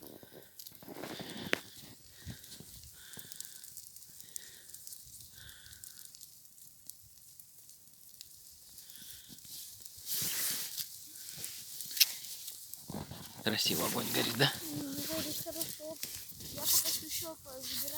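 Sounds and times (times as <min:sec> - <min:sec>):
reeds crackling as they burn: 0:00.0 - 0:17.9.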